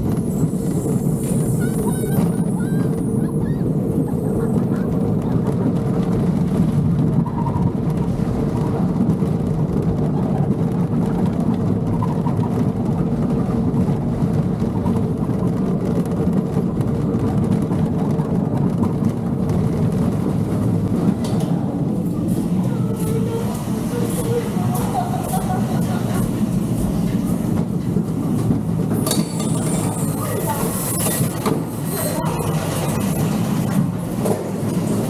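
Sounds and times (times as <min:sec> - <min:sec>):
roller coaster rumbling on track: 0:00.0 - 0:35.0.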